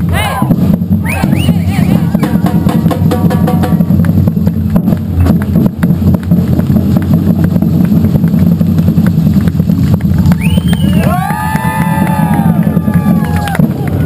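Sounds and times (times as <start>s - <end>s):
deep bass drums: 0.0s - 14.0s
samba percussion band drumming: 0.0s - 14.0s.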